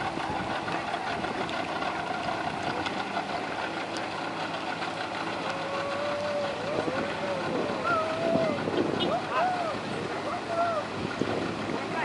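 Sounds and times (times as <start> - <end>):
outboard motor whining: 0.0 - 12.0
water and wind hiss: 0.0 - 12.0.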